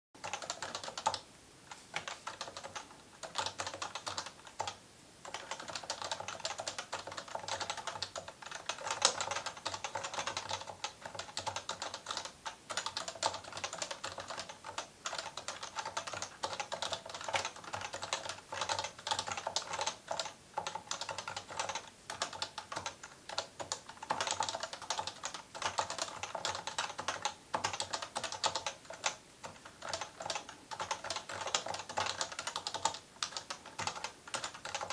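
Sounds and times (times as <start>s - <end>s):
fast typing on a keyboard: 0.2s - 1.2s, 1.9s - 34.9s.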